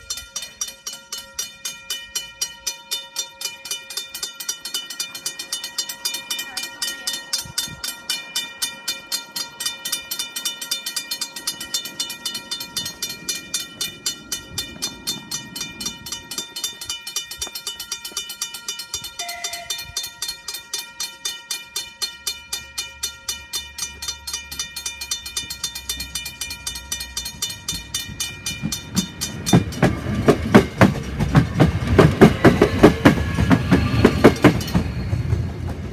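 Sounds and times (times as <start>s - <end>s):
level crossing warning bell: 0.0s - 35.9s
low train rumble: 0.0s - 35.9s.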